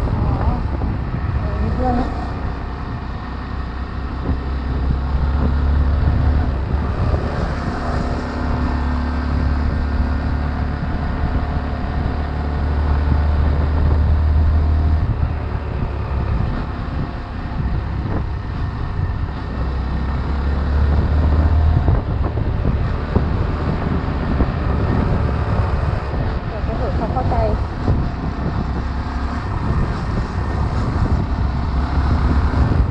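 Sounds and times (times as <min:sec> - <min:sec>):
motorcycle engine rumbling: 0:00.0 - 0:32.9.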